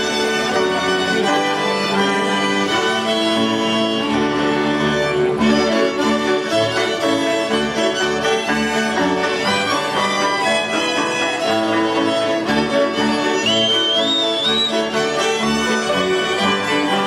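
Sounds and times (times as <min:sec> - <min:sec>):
violins playing folk tune: 0:00.0 - 0:17.0.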